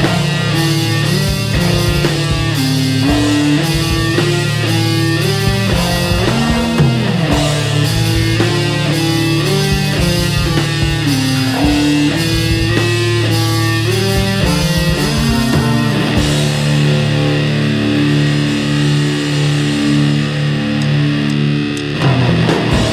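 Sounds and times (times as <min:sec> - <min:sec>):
bass guitar: 0:00.0 - 0:22.9
drums: 0:00.0 - 0:22.9
electric guitars: 0:00.0 - 0:22.9.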